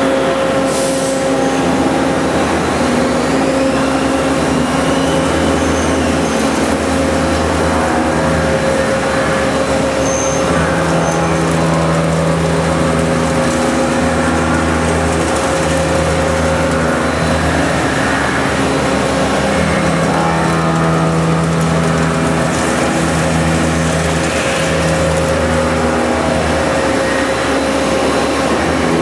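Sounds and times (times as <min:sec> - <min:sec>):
machining center motor whine: 0:00.0 - 0:29.0
pitched machine hum: 0:00.0 - 0:29.0.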